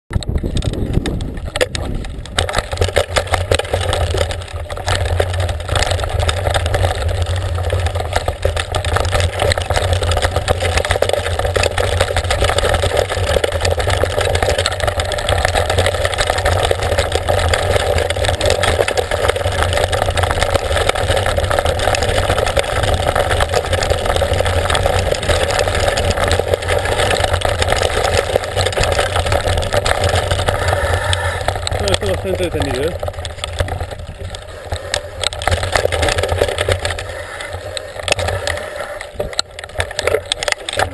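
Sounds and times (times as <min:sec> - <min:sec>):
bike and camera rattling: 0:00.1 - 0:40.9
small clicks and knocks: 0:00.1 - 0:40.9
wind on microphone: 0:00.1 - 0:40.9.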